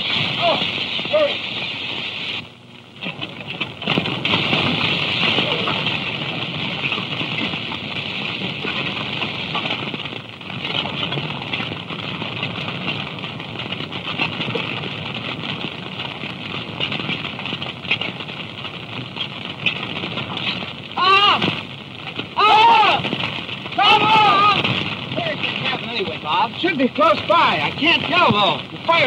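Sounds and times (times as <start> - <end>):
fire crackling: 0.0 - 29.0
fire rushing: 0.0 - 29.0.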